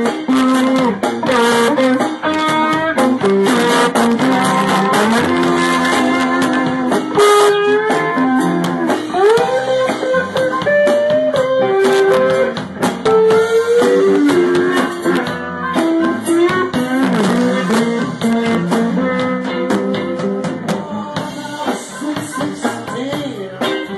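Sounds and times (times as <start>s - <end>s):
drum kit: 0.0s - 23.9s
slide electric guitar: 0.0s - 23.9s.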